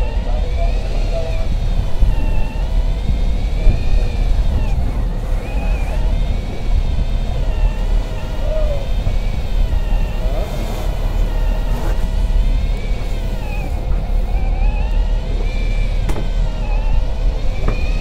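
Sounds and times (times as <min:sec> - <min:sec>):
electric reel motor whining: 0:00.0 - 0:18.0
heavy low rumble: 0:00.0 - 0:18.0.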